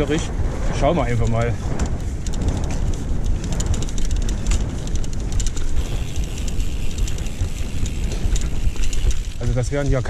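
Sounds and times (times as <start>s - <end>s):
bike rattling over rough ground: 0.0s - 10.0s
wind rumble on microphone: 0.0s - 10.0s.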